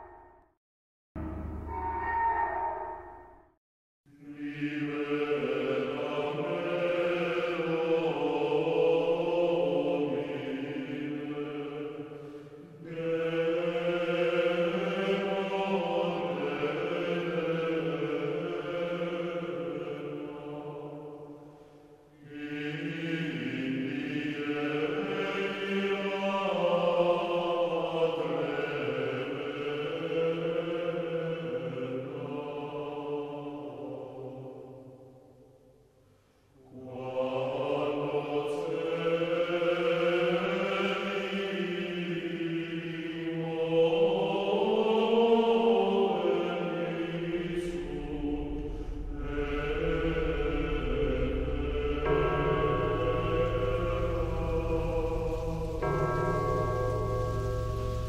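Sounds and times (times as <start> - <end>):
slow choir-like chords: 4.1 - 35.4, 36.5 - 58.0.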